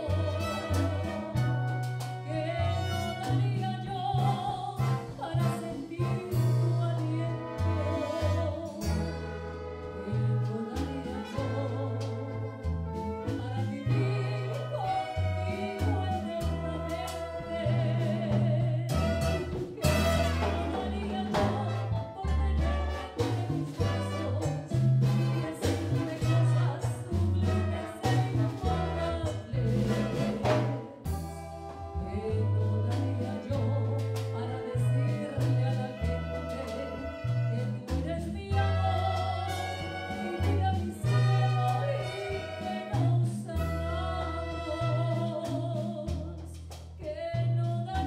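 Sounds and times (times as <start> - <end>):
woman singing: 0.0 - 31.2, 31.8 - 48.0
bass line: 0.0 - 48.0
timbales and congas: 0.0 - 48.0.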